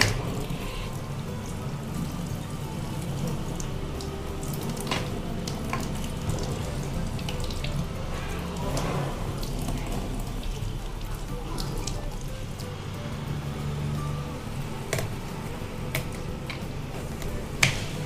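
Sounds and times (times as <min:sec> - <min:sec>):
tap water running into sink: 0:00.0 - 0:18.0.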